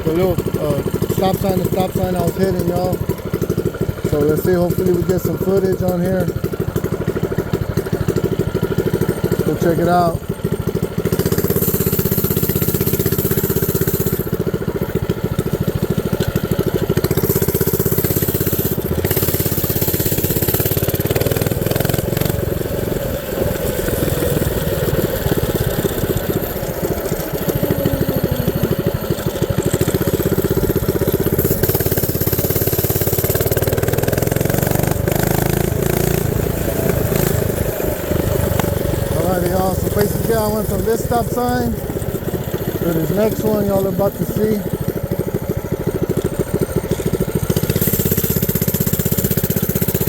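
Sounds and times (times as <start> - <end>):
small engine running: 0.0 - 50.0.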